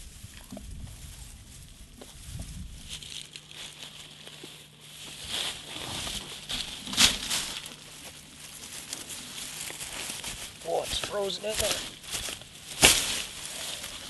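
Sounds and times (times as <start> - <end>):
dry grass rustling: 0.0 - 14.0
dry stems crunching: 0.3 - 14.0.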